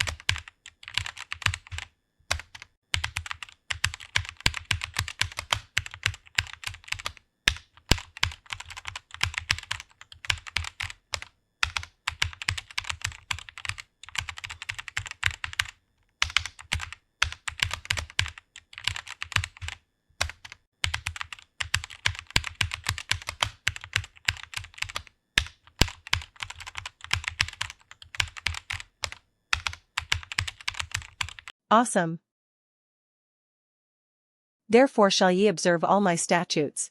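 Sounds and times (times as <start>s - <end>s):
keyboard typing: 0.0s - 31.5s.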